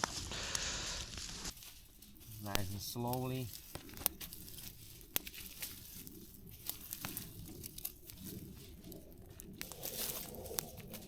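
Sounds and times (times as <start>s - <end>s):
embers crackling and clicking: 0.0s - 11.0s.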